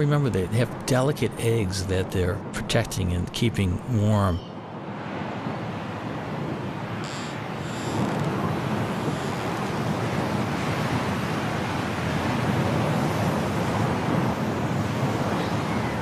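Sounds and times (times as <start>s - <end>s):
strong snowstorm wind: 0.0s - 16.0s.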